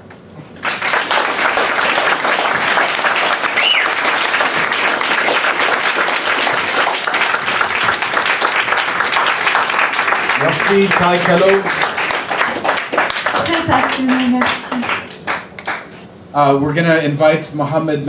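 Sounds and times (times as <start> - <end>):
crowd applauding: 0.6 - 15.9.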